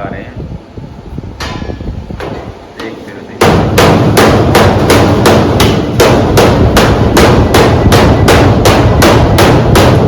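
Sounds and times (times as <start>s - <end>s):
hammering on sheet metal: 1.4s - 10.0s.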